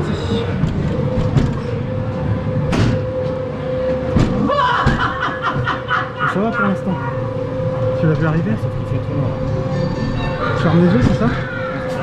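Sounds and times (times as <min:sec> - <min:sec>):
ride car rumbling on track: 0:00.0 - 0:12.0
steady hum: 0:00.0 - 0:12.0.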